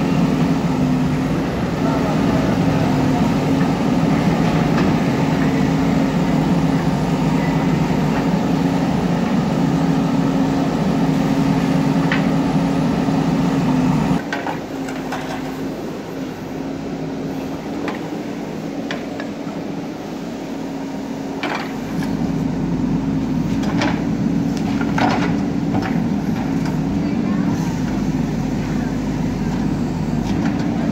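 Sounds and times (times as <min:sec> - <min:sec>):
diesel engine under load: 0:00.0 - 0:30.9.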